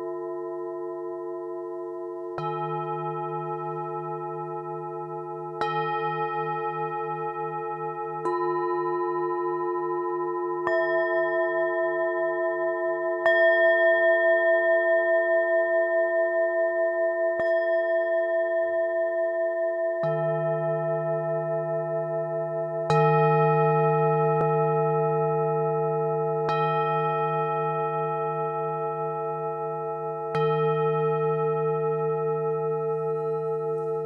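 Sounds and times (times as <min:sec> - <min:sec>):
singing bowls ringing: 0:00.0 - 0:34.0.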